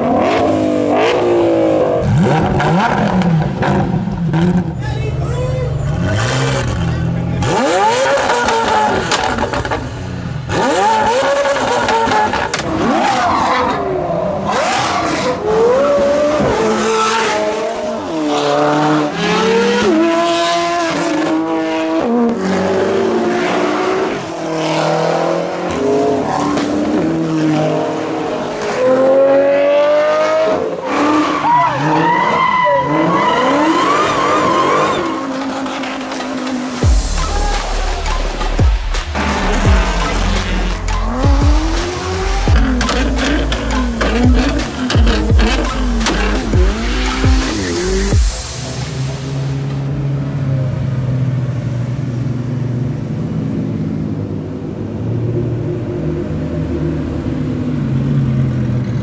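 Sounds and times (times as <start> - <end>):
supercar engines revving: 0.0 - 59.0.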